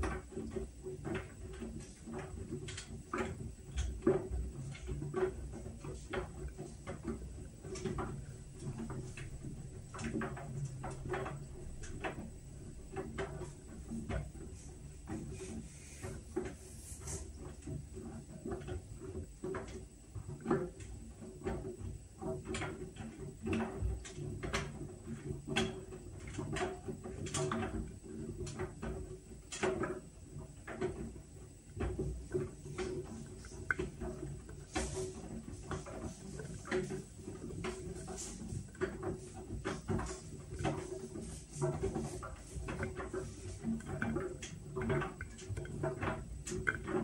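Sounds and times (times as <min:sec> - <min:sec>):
washing machine hum: 0:00.0 - 0:47.0.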